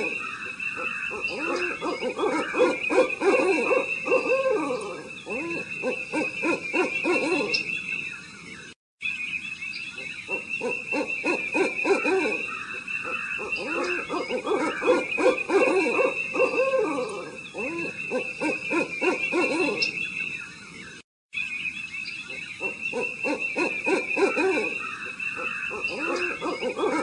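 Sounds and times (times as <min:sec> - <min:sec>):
low hooting bird calls: 0:00.0 - 0:27.0.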